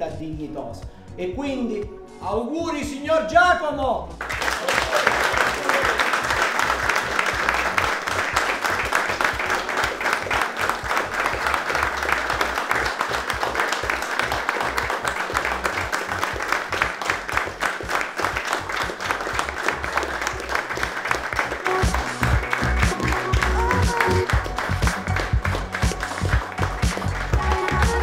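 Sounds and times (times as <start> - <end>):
people applauding: 4.2 - 28.0.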